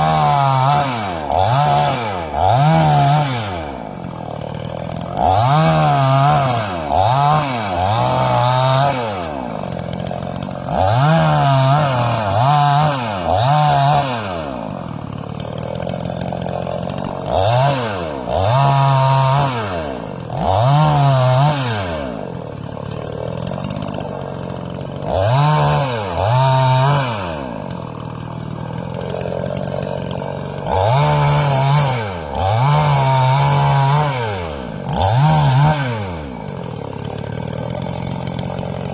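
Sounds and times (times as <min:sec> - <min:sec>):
chainsaw revving in bursts: 0:00.0 - 0:38.9.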